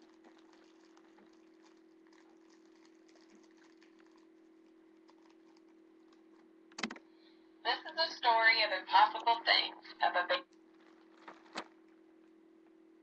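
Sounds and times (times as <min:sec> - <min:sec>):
faint crackles: 0:00.0 - 0:07.4, 0:09.2 - 0:12.4.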